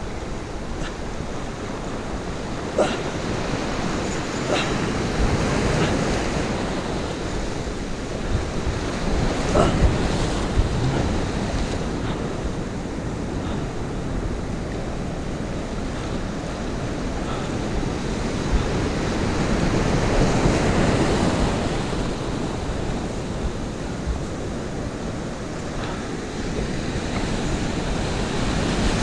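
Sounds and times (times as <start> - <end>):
surf breaking over rocks: 0.0 - 24.5.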